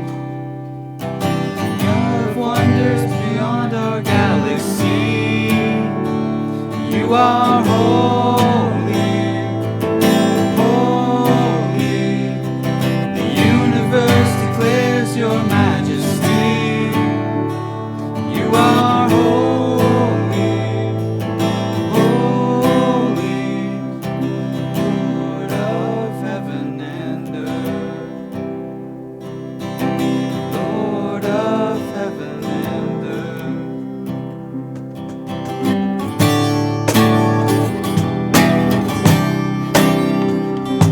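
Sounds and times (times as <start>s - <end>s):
strummed acoustic guitar: 0.0s - 40.9s.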